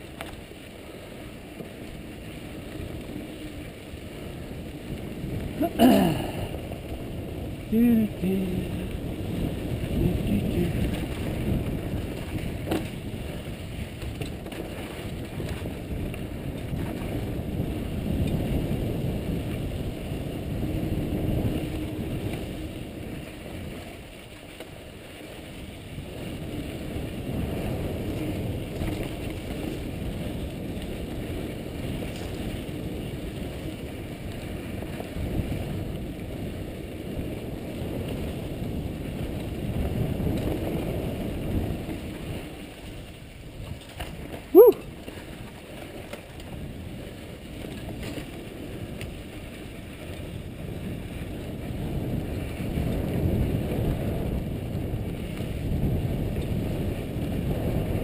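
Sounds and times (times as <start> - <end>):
bike rattling on rough ground: 0.0 - 7.7, 8.8 - 58.0
bike tyres on dirt: 0.0 - 58.0
wind rumble on microphone: 0.0 - 58.0.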